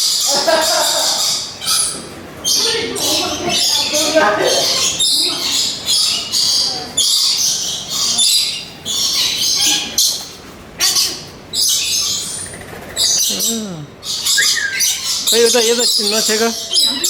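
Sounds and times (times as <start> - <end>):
birds screeching and chirping: 0.0 - 17.0.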